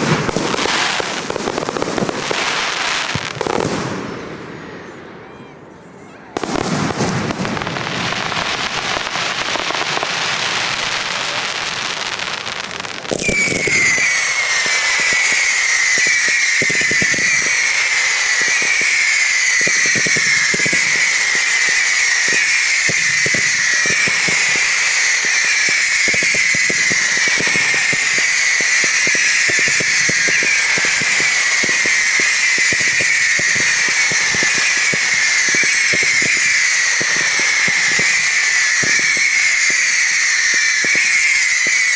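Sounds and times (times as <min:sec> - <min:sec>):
fireworks crackling bursts: 0:00.0 - 0:05.0, 0:06.3 - 0:41.9
fireworks cracks and bangs: 0:00.0 - 0:05.0, 0:06.3 - 0:41.9
fireworks whistling: 0:00.0 - 0:05.0, 0:06.4 - 0:41.9.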